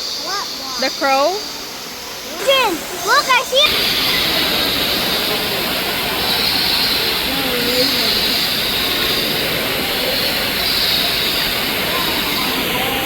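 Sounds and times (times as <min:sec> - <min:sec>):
faint voices: 0:00.0 - 0:13.0
indoor waterfall rushing: 0:01.4 - 0:13.0.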